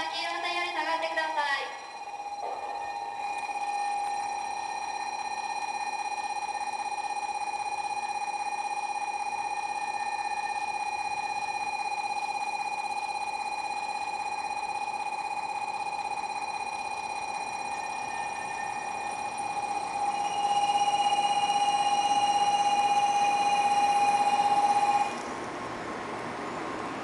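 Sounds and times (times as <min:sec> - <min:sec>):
electronic platform warning bell: 0:00.0 - 0:25.2.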